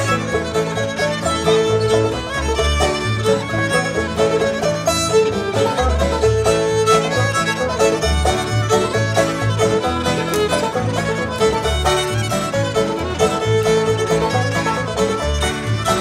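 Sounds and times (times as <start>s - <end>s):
clawhammer banjo: 0.0s - 16.0s
fiddle playing: 0.0s - 16.0s
upright bass: 0.0s - 16.0s.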